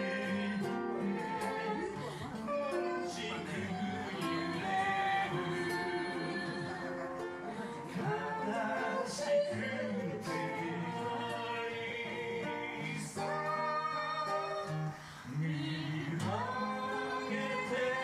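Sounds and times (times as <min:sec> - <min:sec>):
acoustic guitar strumming: 0:00.0 - 0:18.0
man singing into a microphone: 0:00.0 - 0:18.0.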